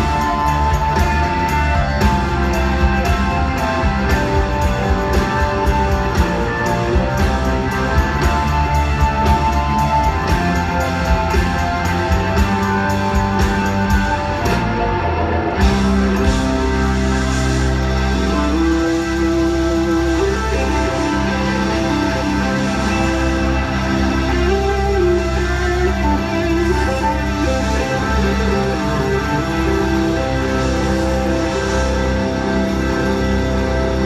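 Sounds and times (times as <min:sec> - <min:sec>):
electric guitar: 0:00.0 - 0:34.0
live blues rock band: 0:00.0 - 0:34.0.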